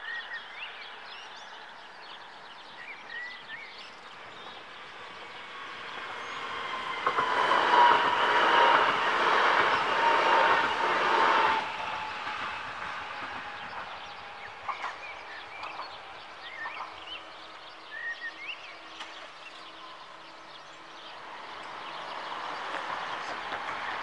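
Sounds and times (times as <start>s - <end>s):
train rolling noise: 0.1s - 24.0s
birds chirping: 0.2s - 24.0s.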